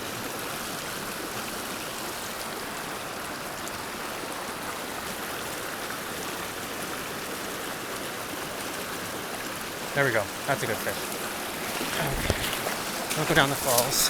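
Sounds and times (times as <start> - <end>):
creek flowing: 0.0 - 14.0.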